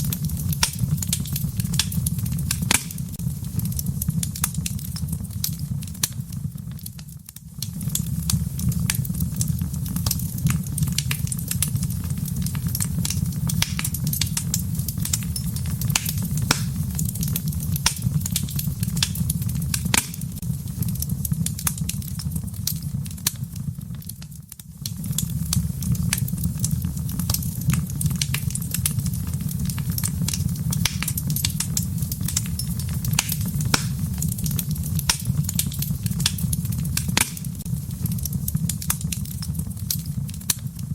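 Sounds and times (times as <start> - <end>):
low rumble of flame: 0.0 - 40.9
wood fire crackling and popping: 0.0 - 40.9.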